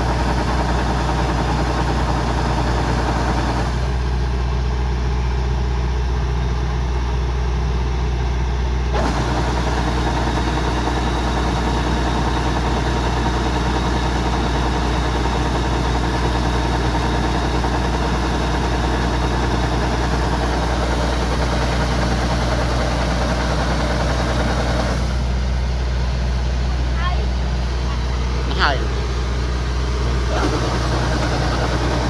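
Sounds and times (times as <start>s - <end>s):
combine harvester diesel engine drone: 0.0s - 32.0s.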